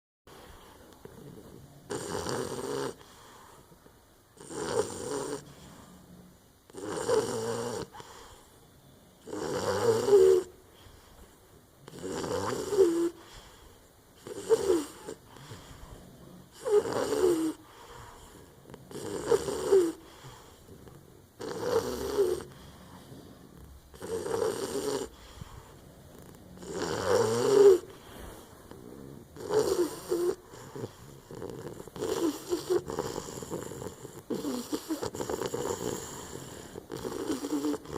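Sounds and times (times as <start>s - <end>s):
puppy snoring: 0.3s - 37.9s.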